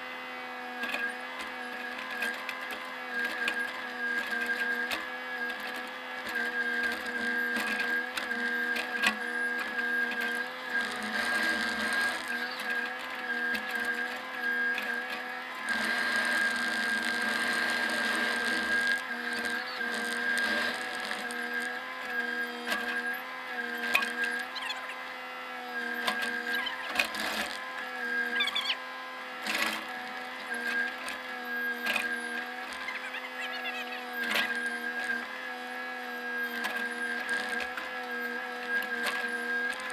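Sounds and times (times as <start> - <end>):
diesel excavator engine whining: 0.0 - 39.9.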